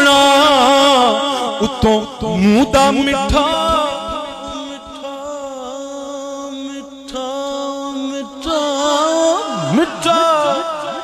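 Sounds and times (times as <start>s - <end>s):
man singing solo: 0.0s - 11.0s.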